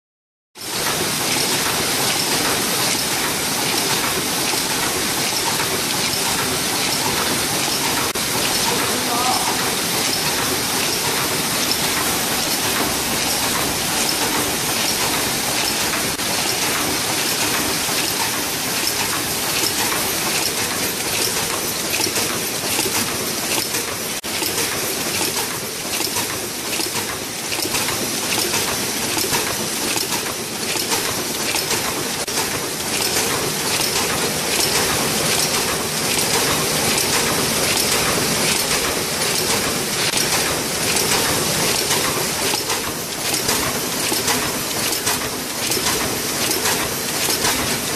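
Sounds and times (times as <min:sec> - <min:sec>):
machine clattering rapidly: 0:00.6 - 0:47.9.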